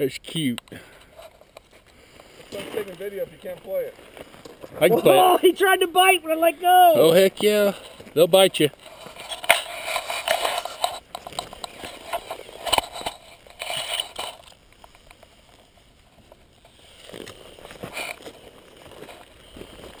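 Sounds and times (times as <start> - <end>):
rustling of dry brush and gravel: 0.0 - 20.0.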